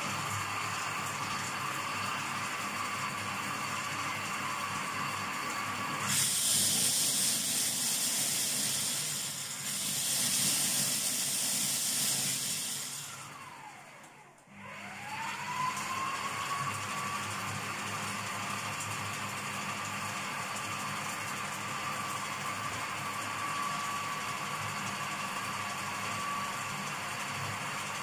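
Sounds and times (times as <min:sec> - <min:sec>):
food processor motor whining: 0:00.0 - 0:28.0.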